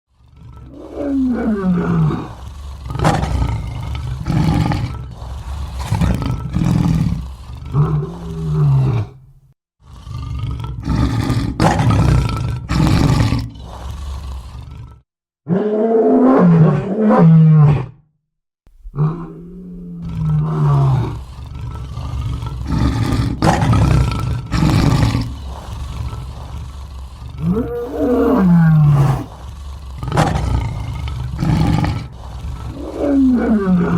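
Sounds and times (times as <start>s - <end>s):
lion grunting: 0.1s - 15.8s, 18.8s - 33.9s
lion roaring: 0.1s - 18.0s, 18.8s - 33.9s.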